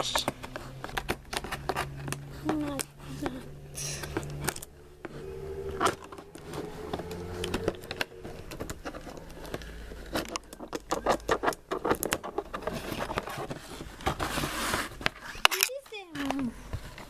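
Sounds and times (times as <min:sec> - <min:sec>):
scissors cutting tape and plastic: 0:00.0 - 0:05.2, 0:05.8 - 0:16.6.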